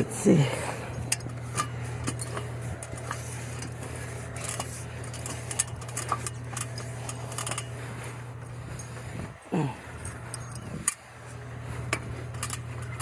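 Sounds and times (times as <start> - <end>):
steady low hum: 0.0 - 13.0
light metallic clinks and ticks: 0.7 - 9.0, 10.0 - 13.0.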